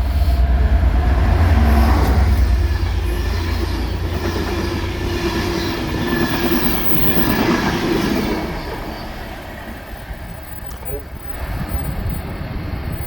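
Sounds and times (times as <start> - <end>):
train wheels clattering past: 0.0 - 13.0.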